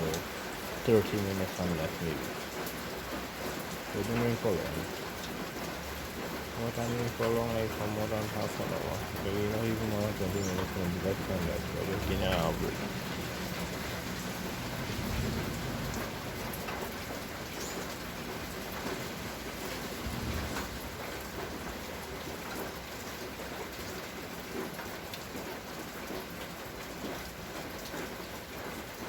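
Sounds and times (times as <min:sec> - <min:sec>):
raindrops ticking on hard surface: 0:00.0 - 0:29.0
steady rain: 0:00.0 - 0:29.0.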